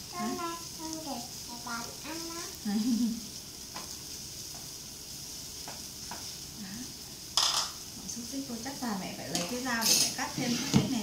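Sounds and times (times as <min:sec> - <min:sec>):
broth boiling: 0:00.0 - 0:11.0
gas stove hiss: 0:00.0 - 0:11.0.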